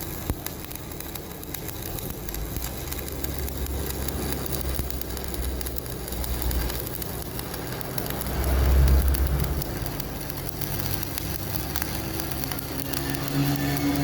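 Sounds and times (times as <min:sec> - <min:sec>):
welding arc crackling: 0:00.0 - 0:14.0
welding machine hum: 0:00.0 - 0:14.0.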